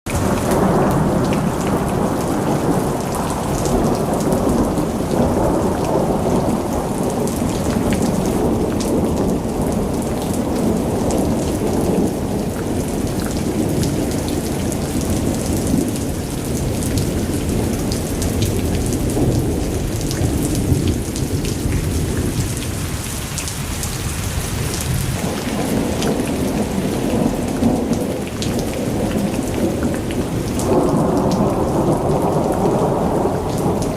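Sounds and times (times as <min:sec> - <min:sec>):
heavy rain patter: 0:00.0 - 0:33.9
thunder rumbling: 0:00.1 - 0:33.9.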